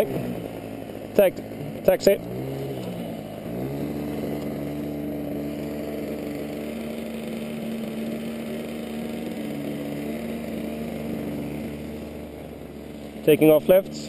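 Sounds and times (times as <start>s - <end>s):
model plane engine running: 0.0s - 14.0s.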